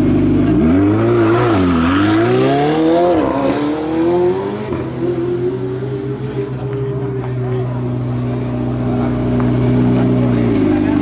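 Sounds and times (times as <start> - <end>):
race car engine accelerating: 0.2 - 11.0.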